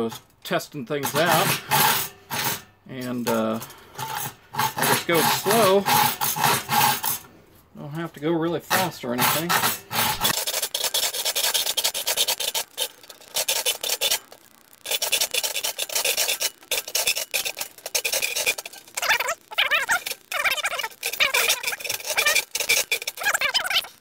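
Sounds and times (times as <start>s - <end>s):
hacksaw cutting metal: 1.0s - 7.3s, 8.6s - 24.0s.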